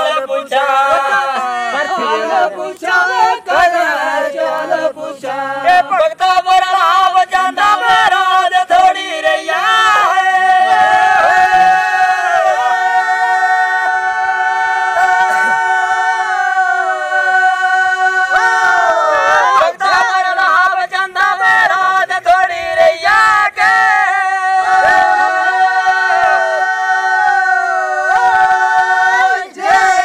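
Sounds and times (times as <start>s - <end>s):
group of people singing: 0.0s - 30.0s.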